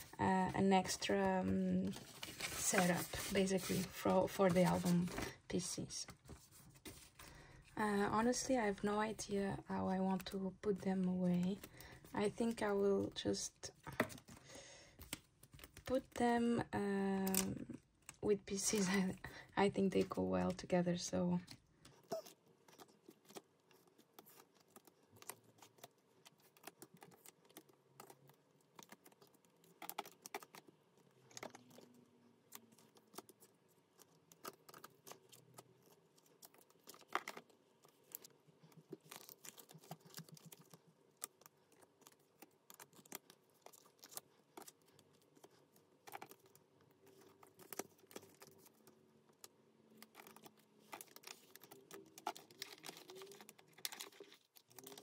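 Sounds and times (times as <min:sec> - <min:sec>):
plastic sleeves rustling and clicking: 0:00.0 - 0:07.4, 0:09.9 - 0:16.2, 0:21.4 - 0:55.0.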